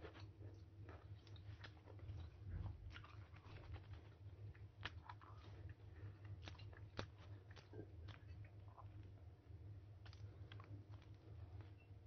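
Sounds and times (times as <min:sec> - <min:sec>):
person chewing: 0:00.0 - 0:09.2, 0:10.0 - 0:11.9
low steady hum: 0:00.0 - 0:12.0.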